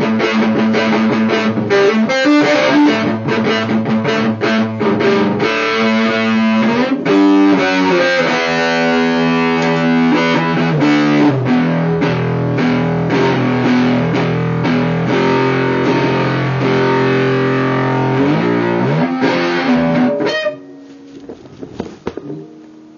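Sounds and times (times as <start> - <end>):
distorted electric guitar: 0.0 - 22.9.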